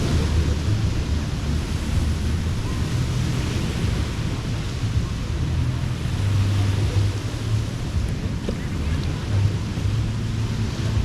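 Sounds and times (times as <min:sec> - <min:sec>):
ocean surf washing ashore: 0:00.0 - 0:11.0
wind on microphone: 0:00.0 - 0:11.0.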